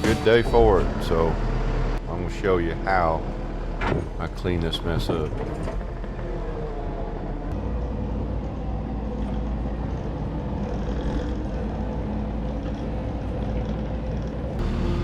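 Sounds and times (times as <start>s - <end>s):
track loader engine running: 0.0s - 15.0s.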